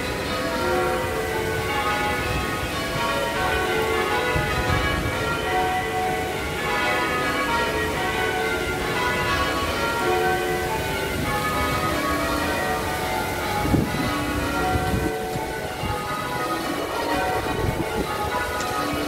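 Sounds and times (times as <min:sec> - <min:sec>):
church bells ringing changes: 0:00.0 - 0:19.0
fountain water splashing: 0:00.0 - 0:19.0.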